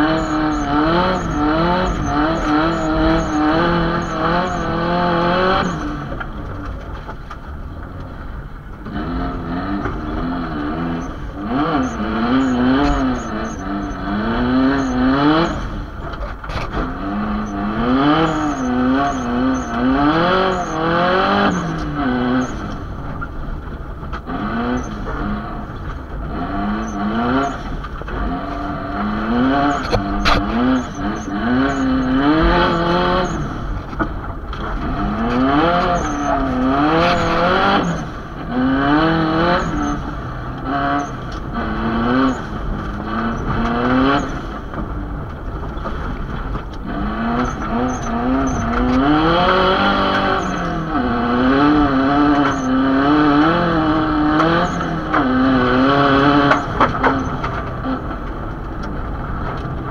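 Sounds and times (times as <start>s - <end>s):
car engine revving: 0.0s - 59.9s
tyres on snow: 0.0s - 59.9s.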